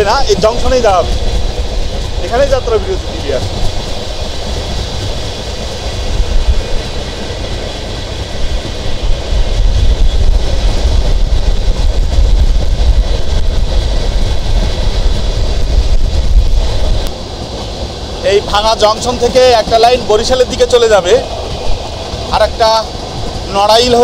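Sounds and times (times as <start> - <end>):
train carriage rumbling: 0.0 - 24.0.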